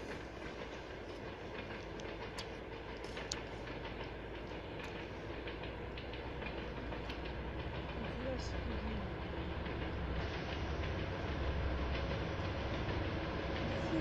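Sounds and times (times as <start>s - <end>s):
locomotive engine and wheels rumbling: 0.0s - 14.0s.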